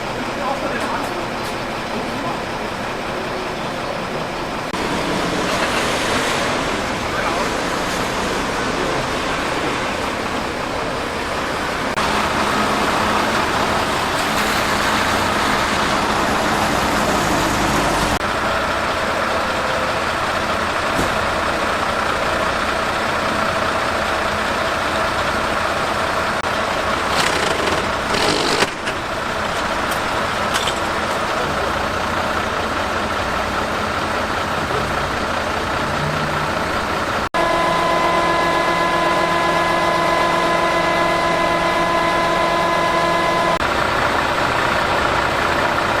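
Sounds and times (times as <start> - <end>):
fire engine running: 0.0 - 46.0.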